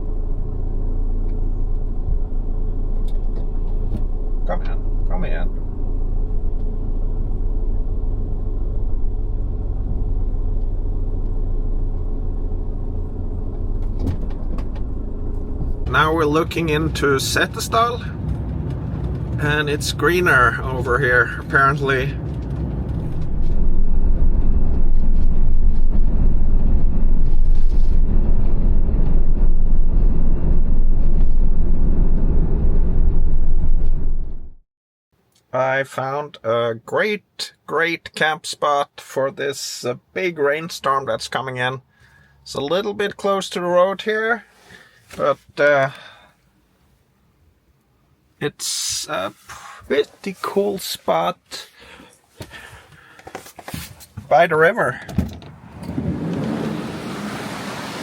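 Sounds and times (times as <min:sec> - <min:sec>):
van engine and road rumble: 0:00.0 - 0:34.6, 0:35.2 - 0:58.0.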